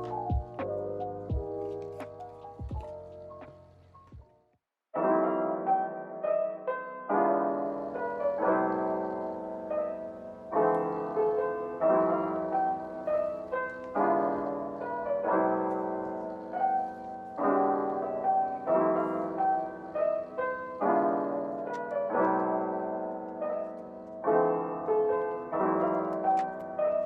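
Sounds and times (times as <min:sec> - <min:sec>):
soft slow piano piece: 0:00.0 - 0:04.3, 0:05.0 - 0:27.0.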